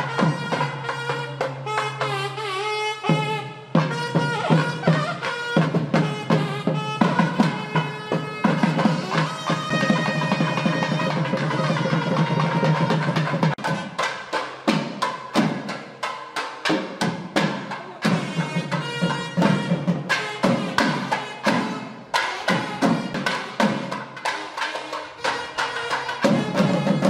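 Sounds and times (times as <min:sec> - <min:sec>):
drumming: 0:00.0 - 0:02.4, 0:03.0 - 0:27.0.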